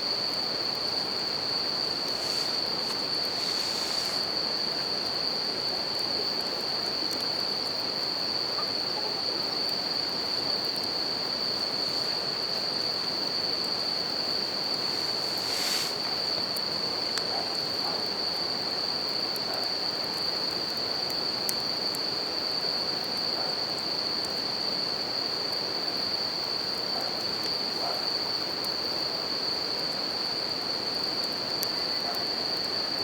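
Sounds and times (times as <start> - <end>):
cricket trilling: 0.0 - 33.0
faint campfire crackles: 0.0 - 33.0.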